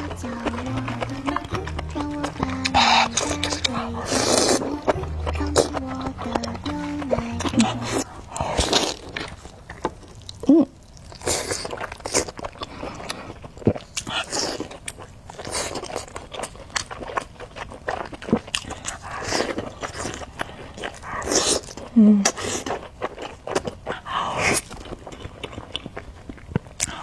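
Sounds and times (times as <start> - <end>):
person chewing crunchy food: 0.0 - 27.0.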